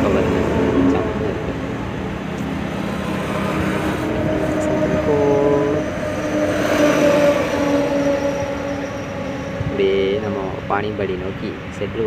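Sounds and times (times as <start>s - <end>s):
drawn-out whining tones: 0.0s - 11.8s
lorry engine and road noise: 0.0s - 12.0s.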